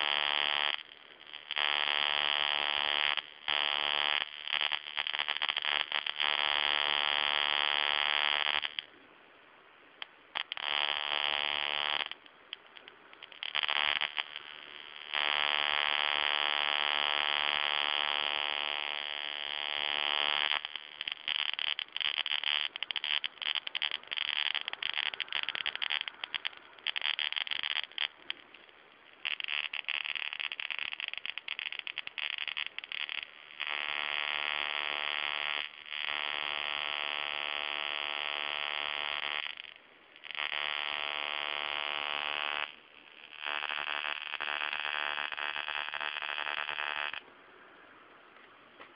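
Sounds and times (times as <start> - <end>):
electric spark discharge buzzing: 0.0 - 8.9, 10.4 - 28.5, 29.2 - 47.2.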